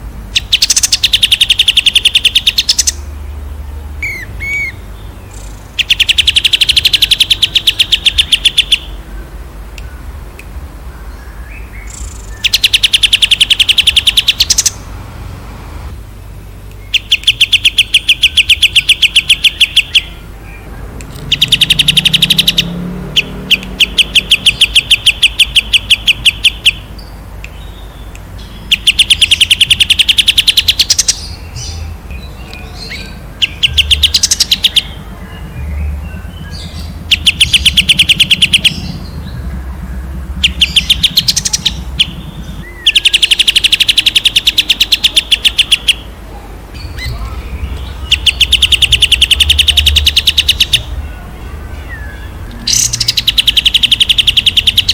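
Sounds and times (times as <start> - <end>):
songbird singing rapid trills: 0.0 - 14.9, 16.1 - 54.9.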